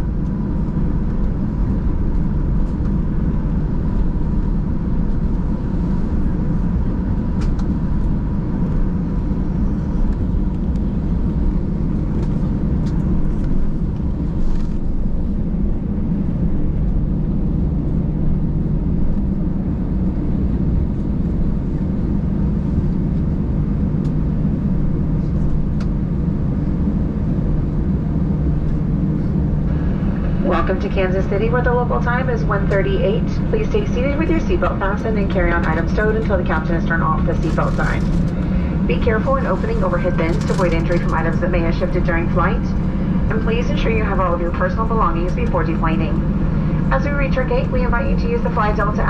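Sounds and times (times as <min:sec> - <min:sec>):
faint whine: 0:00.0 - 0:49.0
jet cabin rumble and hum: 0:00.0 - 0:49.0.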